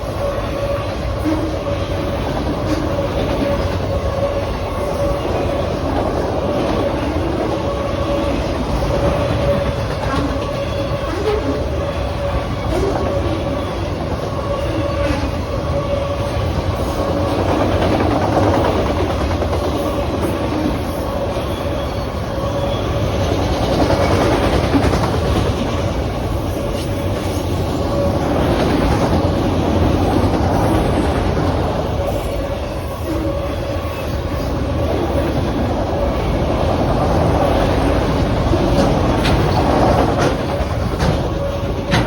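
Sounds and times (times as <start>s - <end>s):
freight train rolling past: 0.0s - 42.0s.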